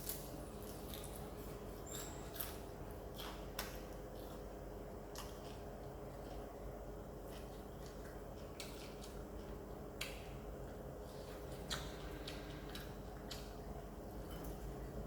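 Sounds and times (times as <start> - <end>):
crunchy fried fish chewing: 0.0 - 15.0.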